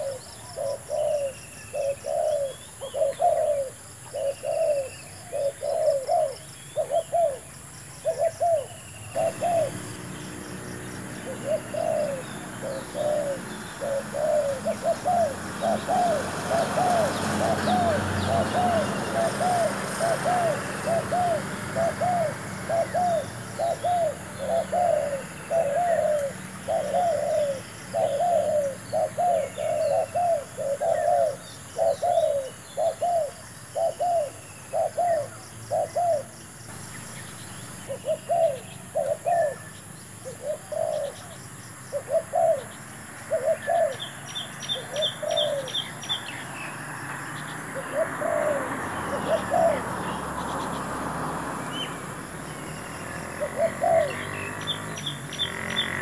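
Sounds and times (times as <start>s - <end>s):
doves cooing: 0.0s - 36.4s, 37.8s - 46.4s, 47.7s - 56.0s
small birds chirping: 0.0s - 56.0s.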